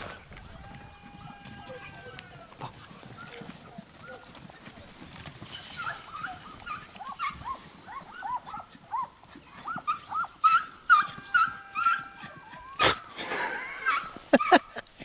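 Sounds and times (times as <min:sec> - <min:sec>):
hounds yelping and barking: 0:00.1 - 0:04.5, 0:05.3 - 0:14.8.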